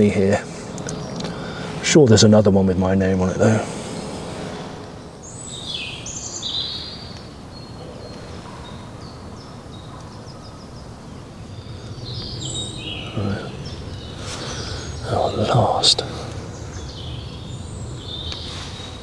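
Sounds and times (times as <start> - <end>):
low outdoor rumble: 0.0 - 19.0
songbirds chirping: 0.0 - 19.0.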